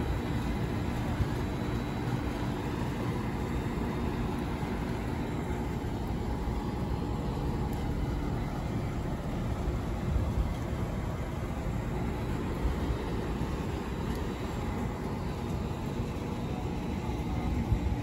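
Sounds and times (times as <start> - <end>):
faint even hum: 0.0 - 18.0
steady low rumble: 0.0 - 18.0.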